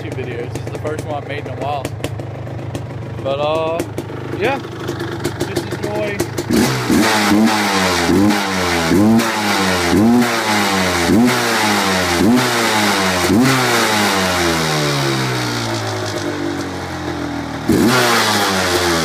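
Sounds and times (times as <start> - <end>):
quad engine revving: 0.0 - 19.0.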